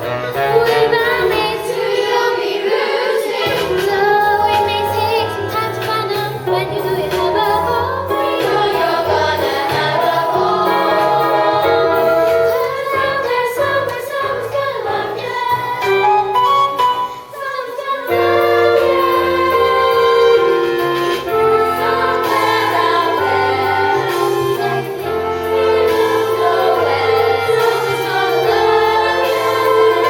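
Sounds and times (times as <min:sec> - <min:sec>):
chorus of young voices singing: 0:00.0 - 0:30.0
instrumental accompaniment: 0:00.0 - 0:30.0.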